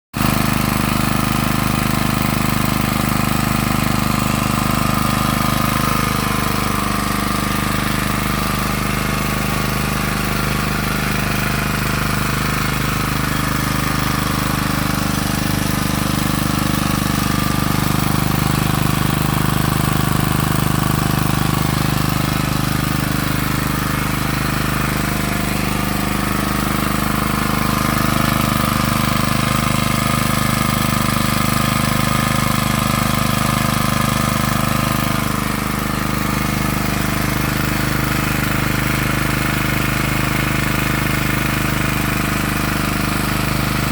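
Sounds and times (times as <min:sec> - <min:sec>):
generator engine running: 0:00.1 - 0:43.9.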